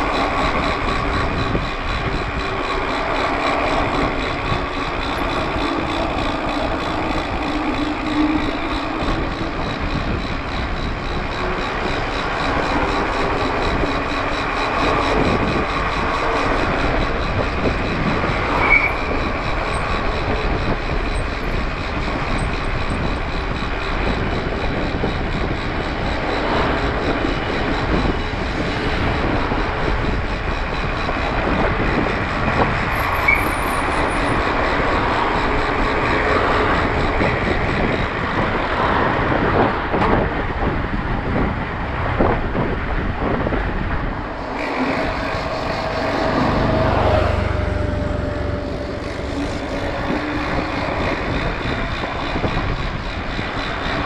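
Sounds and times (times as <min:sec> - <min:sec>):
mountain bike tyre and drivetrain noise: 0:00.0 - 0:54.0
wind on microphone: 0:00.0 - 0:54.0.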